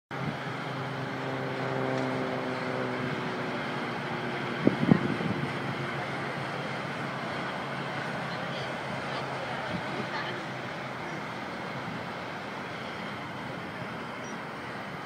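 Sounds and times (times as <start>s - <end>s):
freeway traffic noise: 0.1s - 15.0s
passing vehicle engine hum: 0.2s - 15.0s.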